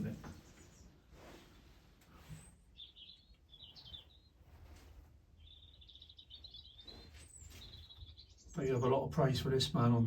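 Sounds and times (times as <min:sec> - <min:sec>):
faint birdsong chirps: 0:00.0 - 0:10.0.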